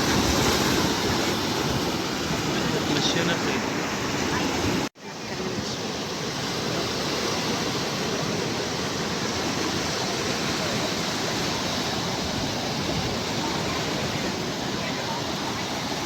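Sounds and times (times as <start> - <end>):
sea surf washing ashore: 0.0 - 16.0.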